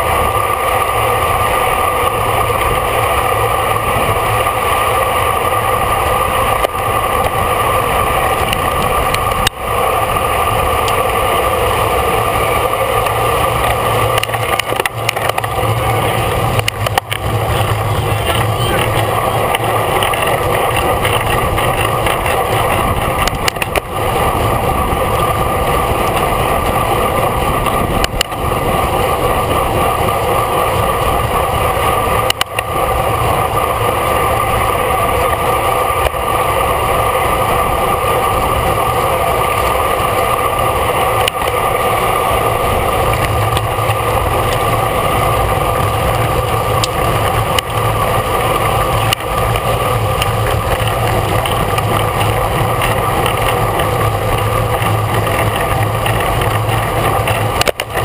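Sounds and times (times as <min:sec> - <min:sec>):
road noise: 0:00.0 - 0:58.0
wind rush: 0:00.0 - 0:58.0.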